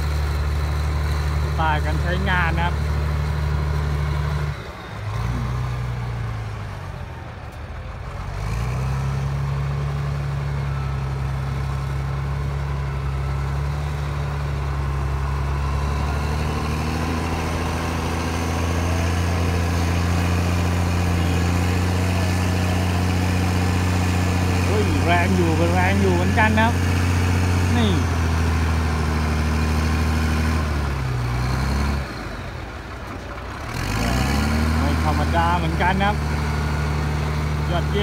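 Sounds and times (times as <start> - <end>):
diesel engine under load: 0.0 - 38.0.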